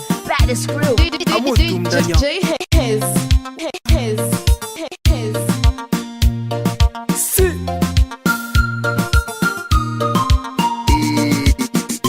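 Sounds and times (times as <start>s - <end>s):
upbeat music with kick drum: 0.0s - 12.0s.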